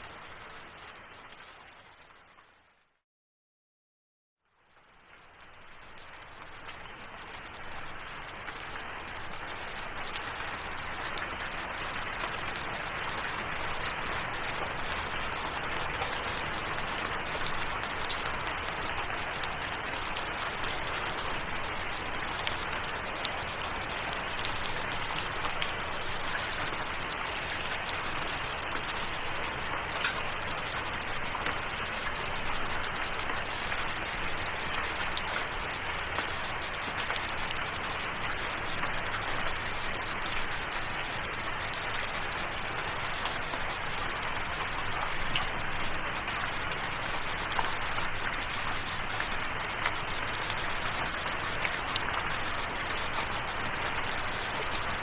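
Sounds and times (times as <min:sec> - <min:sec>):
steady rain falling: 0:00.0 - 0:02.8, 0:04.5 - 0:55.0.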